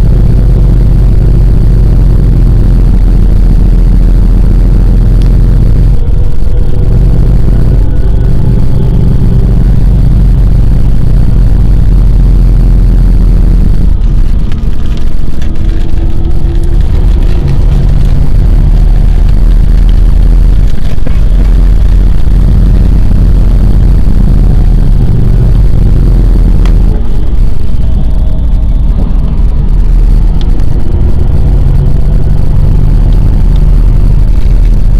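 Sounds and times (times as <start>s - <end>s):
road and engine rumble: 0.0s - 34.9s.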